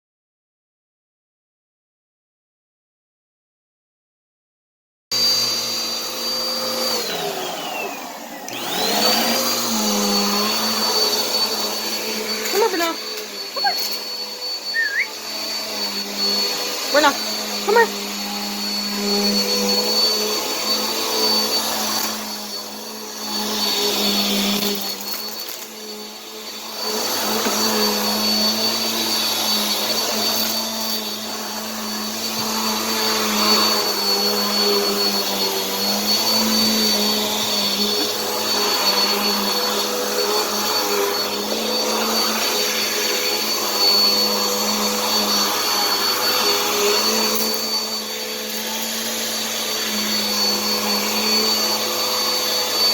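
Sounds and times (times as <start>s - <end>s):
vacuum cleaner motor whining: 5.1s - 52.9s.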